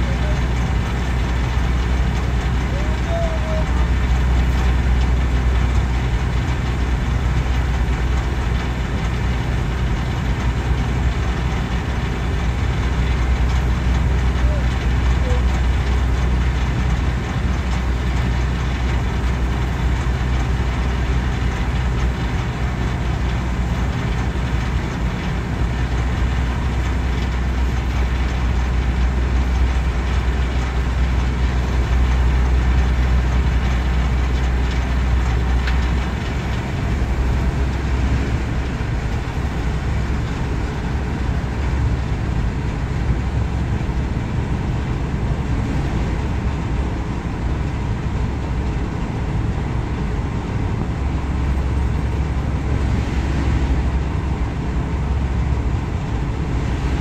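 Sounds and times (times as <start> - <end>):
boat engine rumbling: 0.0 - 57.0.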